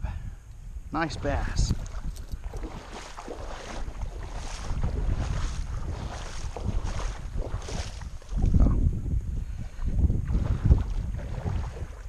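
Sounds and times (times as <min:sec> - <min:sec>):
wind rumbling on microphone: 0:00.0 - 0:12.0
wading through shallow water: 0:01.0 - 0:12.0.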